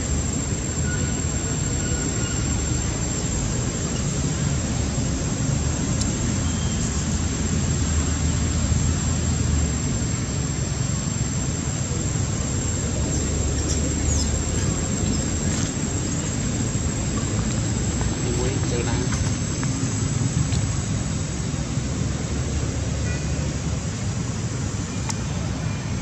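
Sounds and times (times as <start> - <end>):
low rumbling noise: 0.0 - 25.0.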